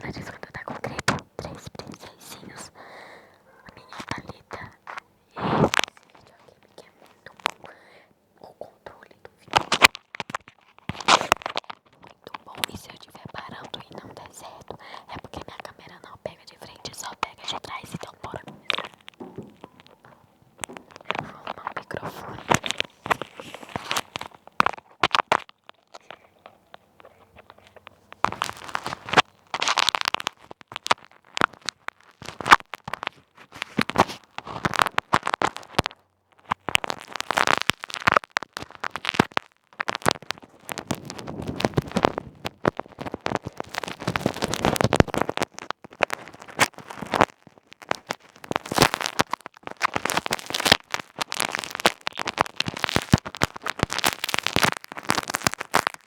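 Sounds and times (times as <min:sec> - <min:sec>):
plastic bag crackling on microphone: 0:00.0 - 0:56.0.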